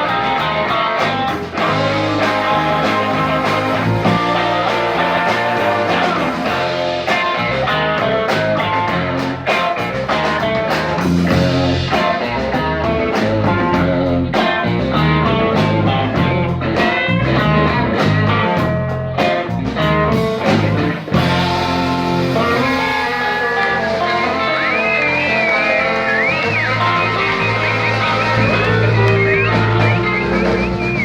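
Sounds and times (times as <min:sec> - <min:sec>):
blues-rock band playing: 0:00.0 - 0:31.0
electric guitar: 0:00.0 - 0:31.0.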